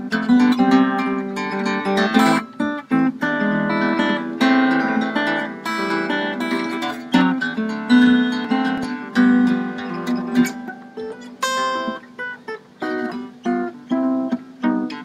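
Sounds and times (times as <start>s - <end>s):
fingerstyle harp guitar: 0.0s - 15.0s.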